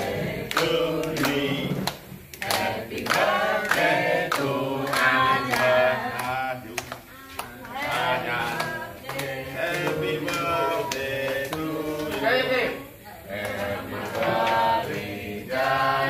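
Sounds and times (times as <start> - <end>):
people clapping in time: 0.0 - 12.6, 13.3 - 16.0
group singing birthday song: 0.0 - 16.0.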